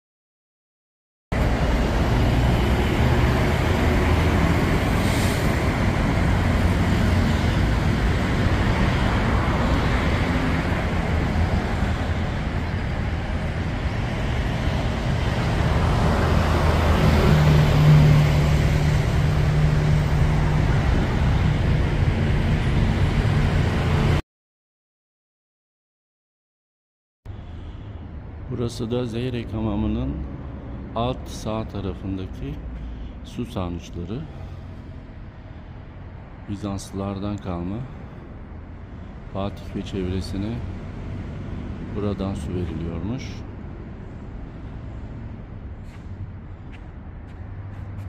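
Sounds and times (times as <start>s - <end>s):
city road traffic: 1.3s - 24.2s, 27.3s - 48.0s
large vehicle engine hum: 1.3s - 24.2s, 27.3s - 48.0s.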